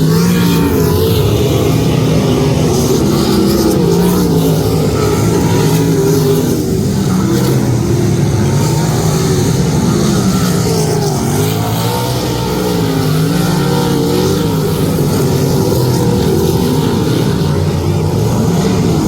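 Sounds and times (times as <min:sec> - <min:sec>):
race car engine revving: 0:00.0 - 0:19.0.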